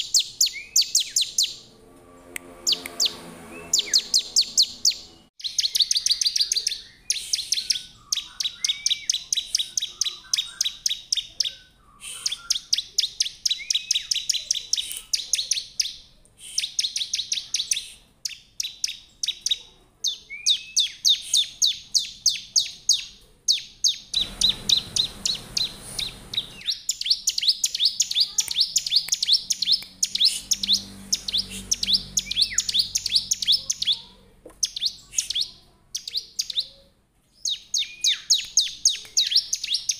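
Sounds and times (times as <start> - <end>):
bird chirping rapidly: 0.0 - 1.7, 2.5 - 36.8, 37.4 - 39.9.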